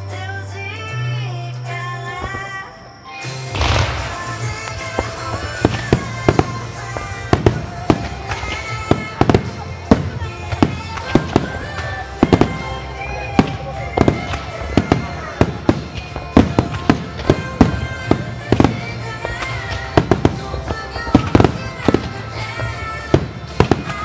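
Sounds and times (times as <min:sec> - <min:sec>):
music from loudspeakers: 0:00.0 - 0:24.0
fireworks booming: 0:03.3 - 0:24.0.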